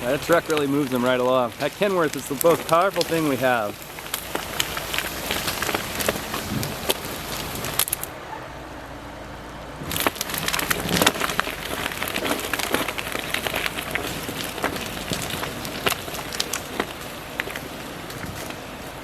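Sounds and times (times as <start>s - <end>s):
branches crackling and snapping: 0.0s - 8.2s, 9.5s - 19.0s.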